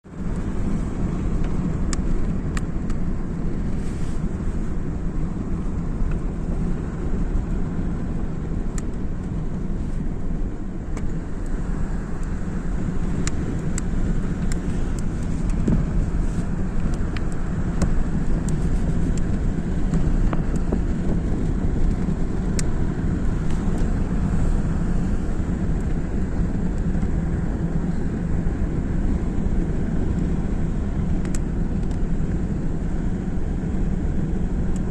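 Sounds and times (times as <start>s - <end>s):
road noise: 0.0s - 34.9s
vehicle engine rumble: 0.0s - 34.9s.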